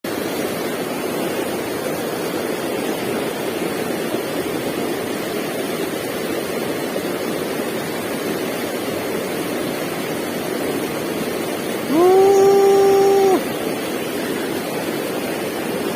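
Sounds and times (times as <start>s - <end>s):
stream water rushing over rocks: 0.1s - 15.9s.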